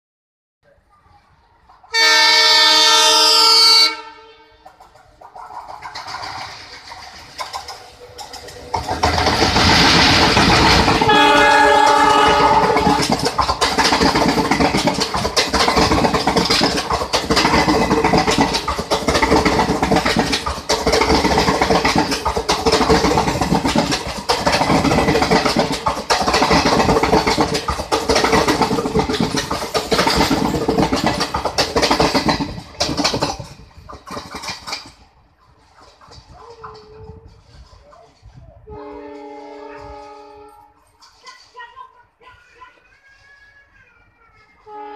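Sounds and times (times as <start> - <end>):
train wheels rumbling on rails: 0.6 - 44.9.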